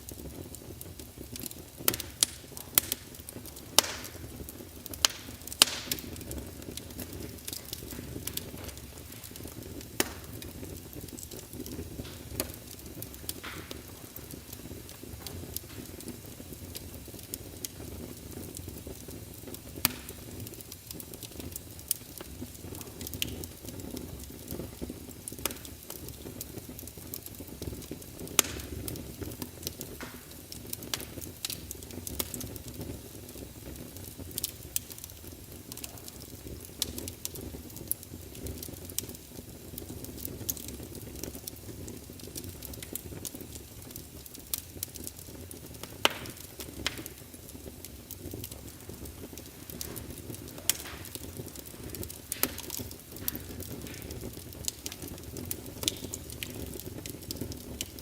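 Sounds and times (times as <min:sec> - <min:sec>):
fire rumbling and hissing: 0:00.0 - 0:58.0
logs crackling and popping: 0:00.0 - 0:58.0.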